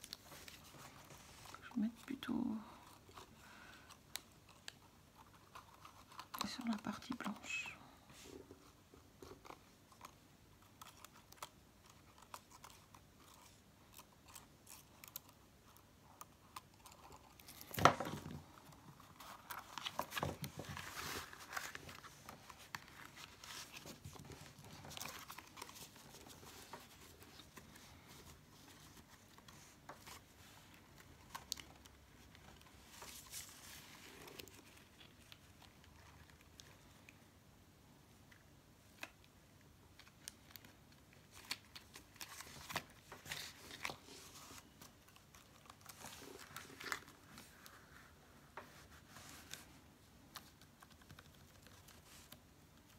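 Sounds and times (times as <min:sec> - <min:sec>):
paper rustling: 0:00.0 - 0:01.7, 0:02.7 - 0:07.5, 0:08.1 - 0:36.9, 0:40.0 - 0:52.9.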